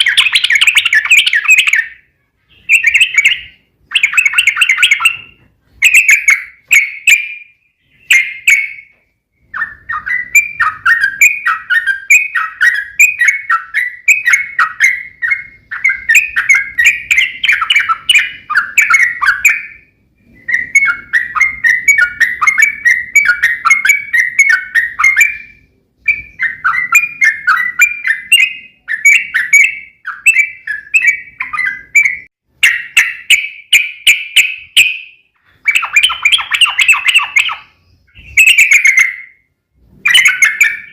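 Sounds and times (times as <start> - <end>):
bird singing bubbling chirps: 0.0 - 40.9.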